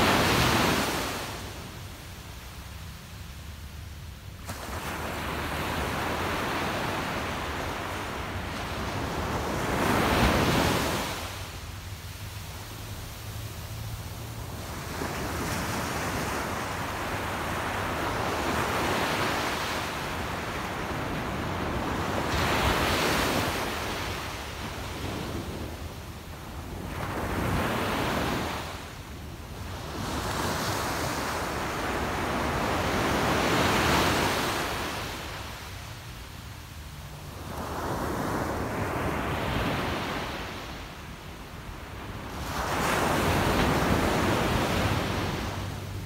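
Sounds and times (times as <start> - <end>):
small waves breaking on beach: 0.0 - 3.4, 4.3 - 46.0.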